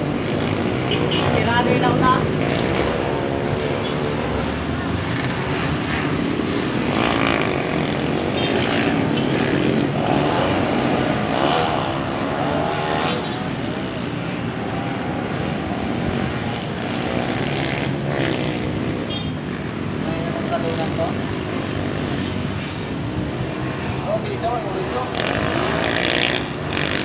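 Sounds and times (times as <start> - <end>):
motorcycle engines revving: 0.0 - 27.0
road traffic noise: 0.0 - 27.0.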